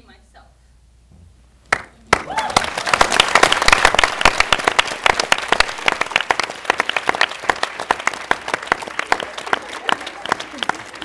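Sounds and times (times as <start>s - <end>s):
crowd applause: 2.1s - 11.0s.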